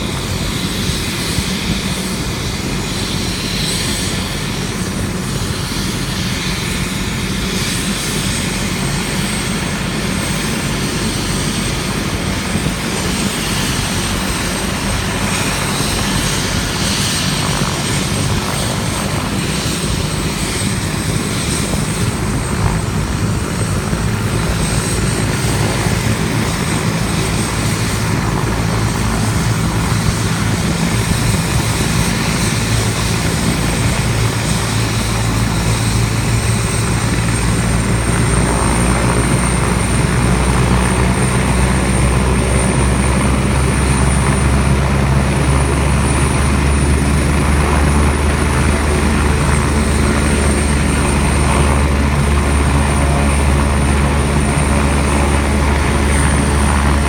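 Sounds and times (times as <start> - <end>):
helicopter rotor rumble: 0.0 - 57.0
high turbine whine: 0.0 - 57.0.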